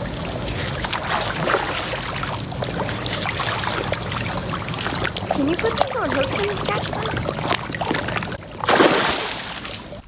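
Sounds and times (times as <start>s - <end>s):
fish splashing at water surface: 0.0s - 10.0s
water washing: 0.0s - 10.0s.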